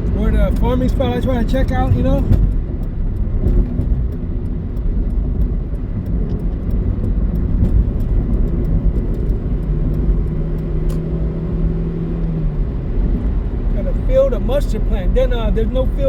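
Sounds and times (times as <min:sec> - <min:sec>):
engine hum: 0:00.0 - 0:16.0
road and traffic rumble: 0:00.0 - 0:16.0.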